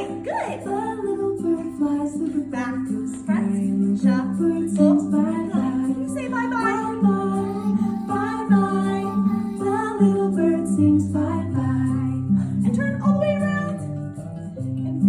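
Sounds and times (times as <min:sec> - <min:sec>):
woman singing: 0:00.0 - 0:13.9
plucked string accompaniment: 0:00.0 - 0:15.0.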